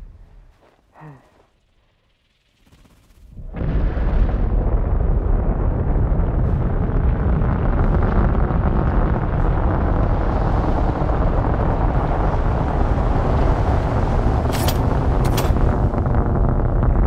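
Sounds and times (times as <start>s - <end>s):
low rumble of churning sand: 3.2s - 17.0s.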